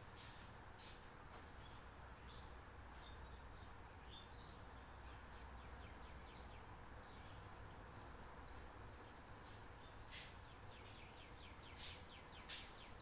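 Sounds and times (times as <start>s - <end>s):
faint bird chirps and trills: 1.6s - 13.0s.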